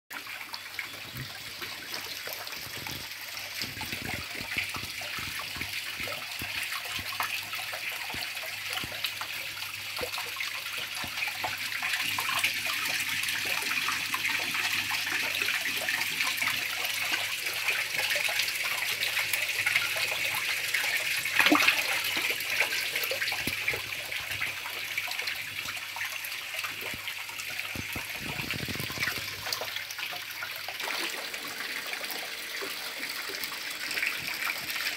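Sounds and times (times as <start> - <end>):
pond water splashing and trickling: 0.1 - 34.9.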